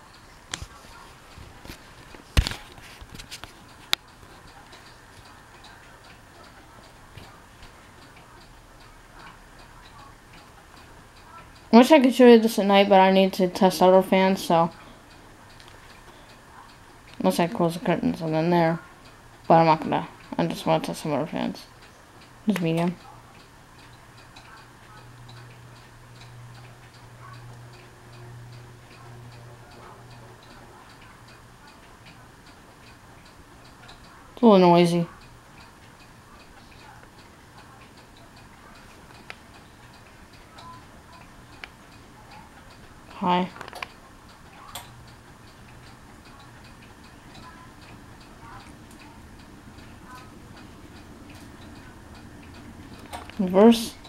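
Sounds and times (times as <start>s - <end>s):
ceiling fan ticking and humming: 0.0s - 54.0s.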